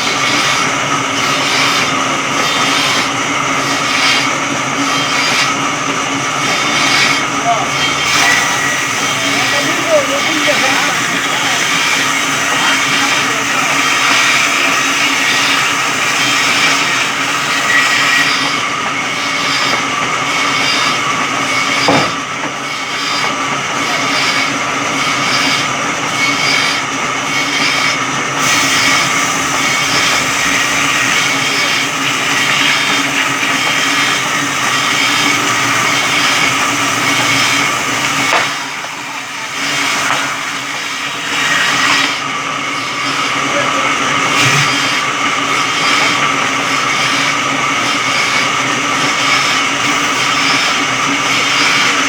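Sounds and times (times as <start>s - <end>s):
electric saw cutting wood: 0.0s - 52.0s.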